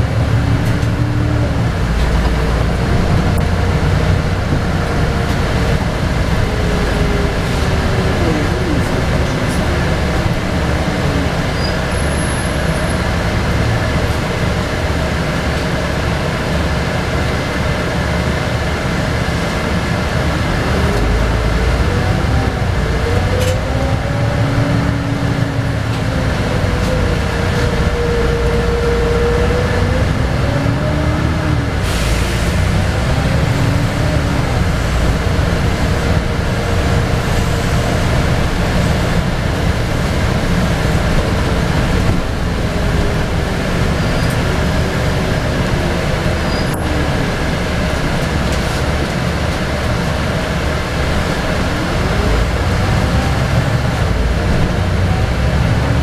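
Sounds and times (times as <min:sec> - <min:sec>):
bus engine and drivetrain: 0:00.0 - 0:56.0
road and tyre rumble: 0:00.0 - 0:56.0.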